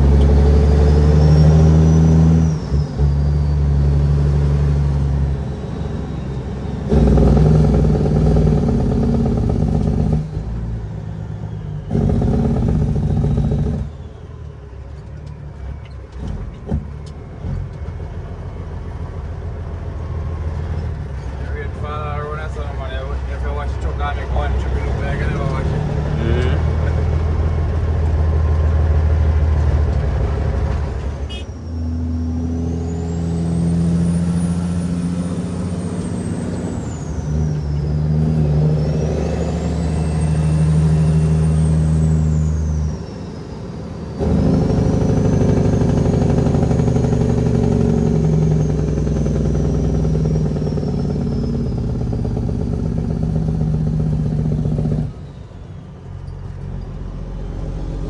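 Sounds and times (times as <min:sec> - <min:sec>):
diesel engine under heavy load: 0:00.0 - 0:58.0.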